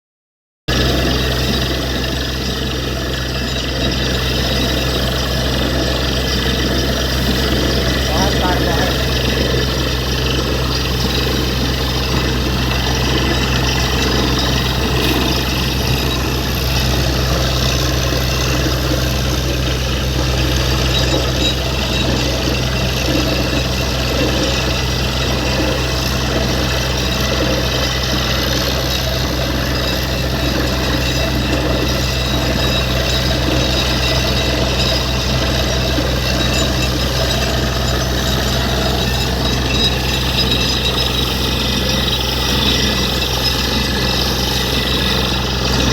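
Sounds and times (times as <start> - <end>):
heavy engine drone: 0.7 - 45.9
rattling hammer-like noise: 1.5 - 45.9.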